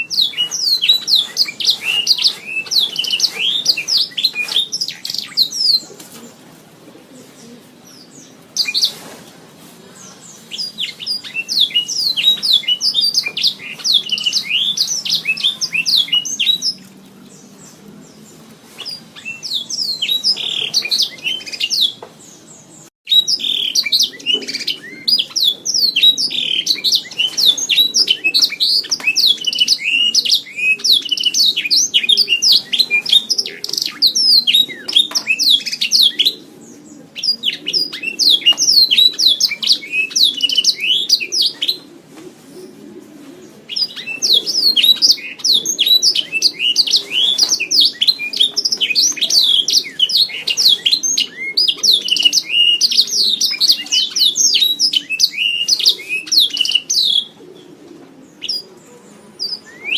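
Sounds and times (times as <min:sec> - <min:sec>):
canary singing trills: 0:00.0 - 0:06.0, 0:10.0 - 0:41.9, 0:43.7 - 0:59.9.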